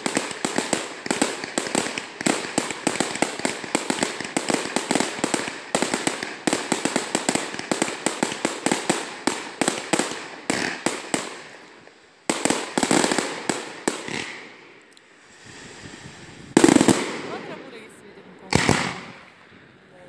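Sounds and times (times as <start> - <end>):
fireworks bangs: 0.0 - 19.8.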